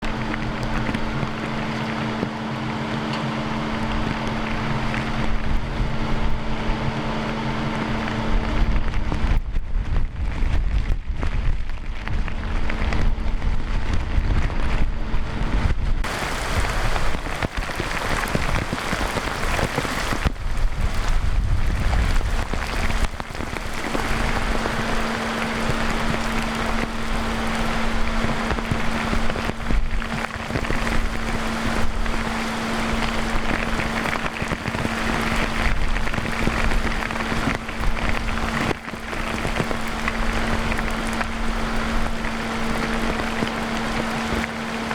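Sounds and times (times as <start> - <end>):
heavy rain pouring: 0.0 - 44.9
steady hum: 0.0 - 44.9
wind rumbling against microphone: 0.0 - 44.9.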